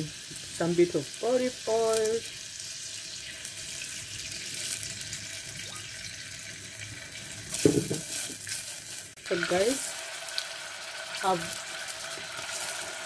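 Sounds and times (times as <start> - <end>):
butter and oil sizzling: 0.0 - 13.0.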